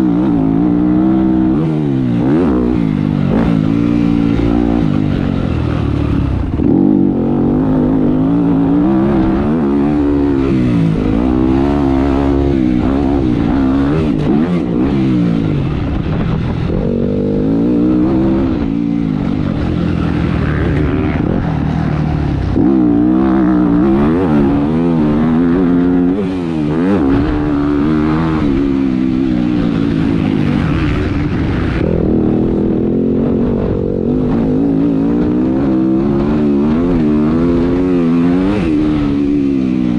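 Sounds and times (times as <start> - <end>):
motocross bike engine revving: 0.0 - 39.9
wind noise: 0.0 - 39.9.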